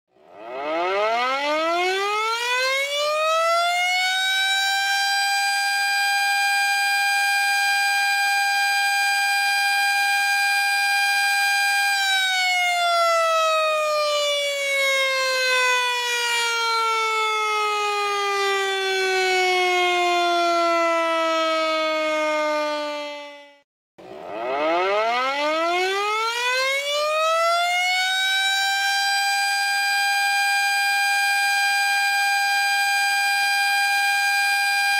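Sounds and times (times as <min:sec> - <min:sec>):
warning siren wailing: 0:00.1 - 0:34.9.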